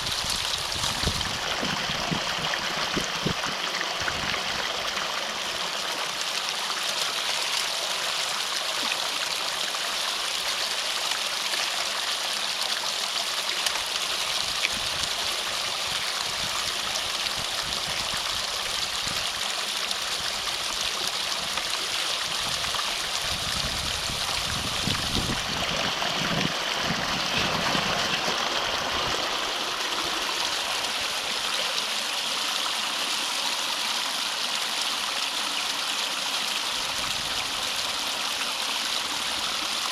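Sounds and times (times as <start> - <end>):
water rushing and gurgling: 0.0 - 39.9.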